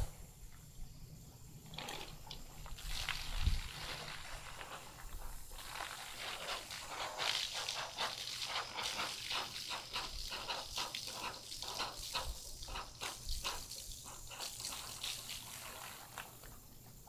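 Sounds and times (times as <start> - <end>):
car-wash brush sputtering foam: 2.0 - 17.0.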